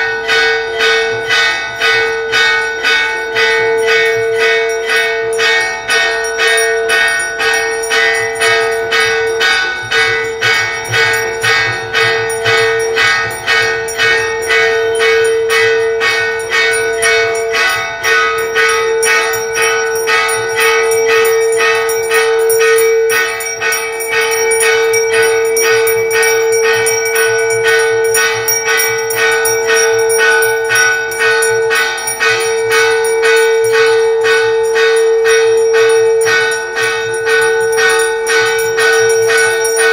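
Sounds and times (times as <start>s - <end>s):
bells struck rapidly: 0.0s - 39.9s
steady ringing hum: 0.0s - 39.9s.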